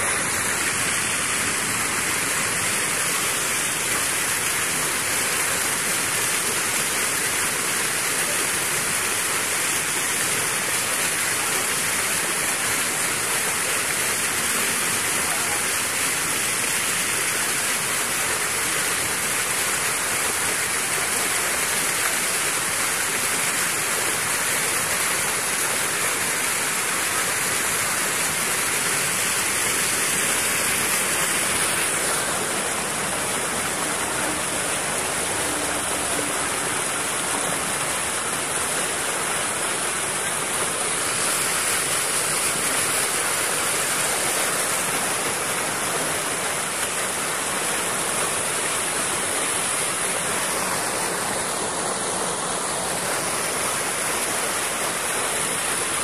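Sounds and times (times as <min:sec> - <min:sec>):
floodwater rushing through stream: 0:00.0 - 0:56.0.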